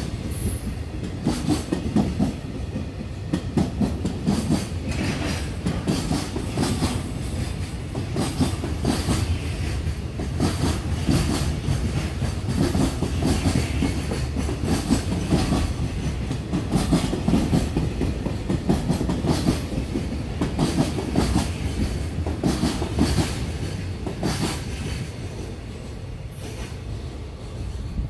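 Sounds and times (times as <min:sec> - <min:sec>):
freight train wheels clattering: 0:00.0 - 0:25.6.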